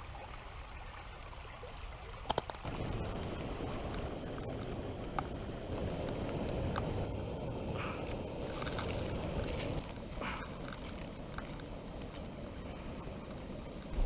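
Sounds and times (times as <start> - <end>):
creek running over stones: 0.0 - 14.0.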